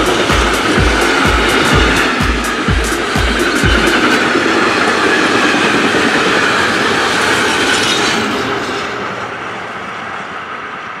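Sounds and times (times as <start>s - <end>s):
freight train wagons rolling: 0.0s - 10.6s.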